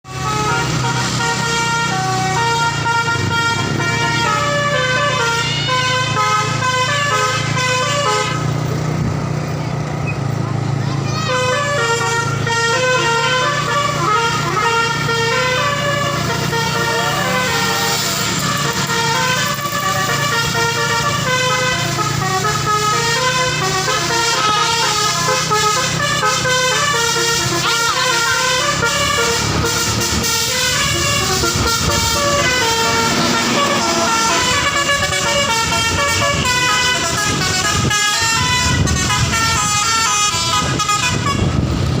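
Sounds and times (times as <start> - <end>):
bus engine rumble: 0.0 - 42.0
multi-tone musical bus horn: 0.1 - 9.5, 10.8 - 42.0.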